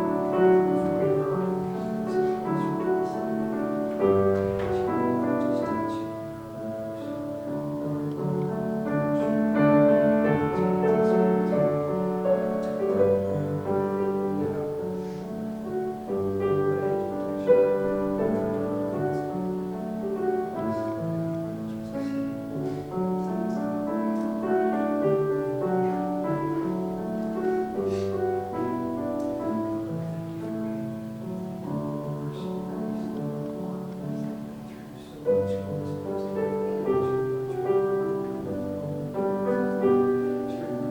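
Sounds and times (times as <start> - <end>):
soft piano chords: 0.0 - 40.9.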